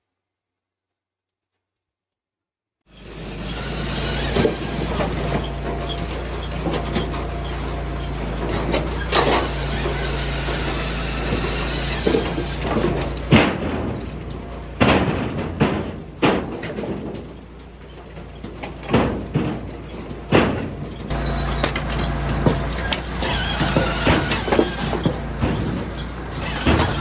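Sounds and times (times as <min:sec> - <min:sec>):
engine running: 0:02.9 - 0:27.0
machinery knocks and clunks: 0:04.1 - 0:27.0.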